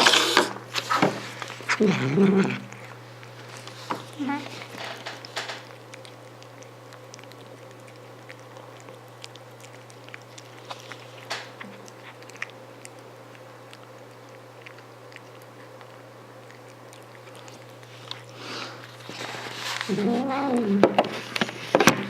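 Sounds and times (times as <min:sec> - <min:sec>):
cat chewing food: 0:00.0 - 0:22.0
steady low hum: 0:00.0 - 0:22.0.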